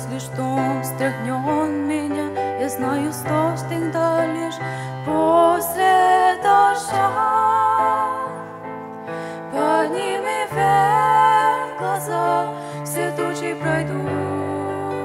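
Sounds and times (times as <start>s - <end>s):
women singing a duet: 0.0s - 8.6s, 9.4s - 15.0s
grand piano: 0.0s - 15.0s.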